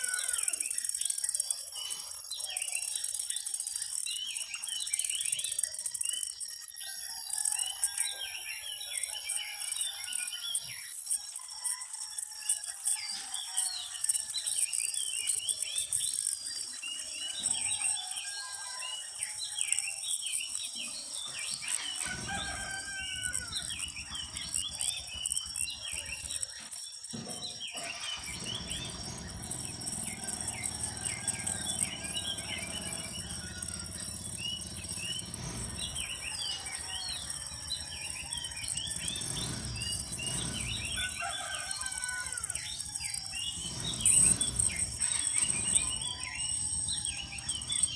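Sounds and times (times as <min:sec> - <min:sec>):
birds chirping: 0:00.0 - 0:12.4, 0:13.0 - 0:47.9
high insect drone: 0:09.4 - 0:47.9.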